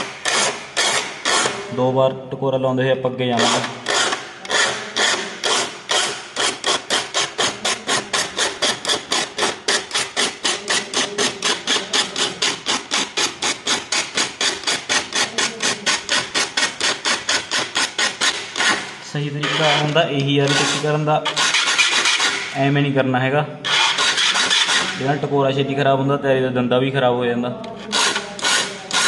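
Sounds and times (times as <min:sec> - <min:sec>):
file rasping on saw teeth: 0:00.0 - 0:01.7, 0:03.3 - 0:22.6, 0:23.6 - 0:25.2, 0:27.8 - 0:29.0.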